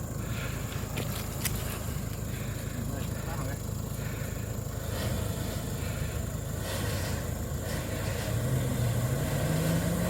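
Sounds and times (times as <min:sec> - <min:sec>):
engine rumbling and speeding up: 0:00.0 - 0:10.0.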